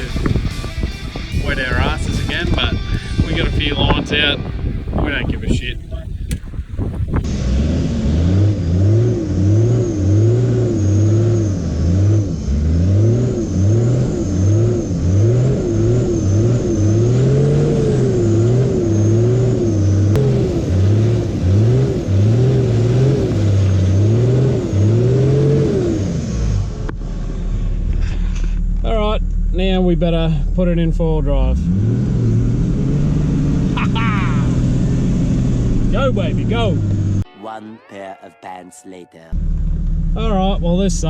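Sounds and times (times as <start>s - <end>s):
car engine revving: 0.0s - 37.3s, 39.3s - 41.0s.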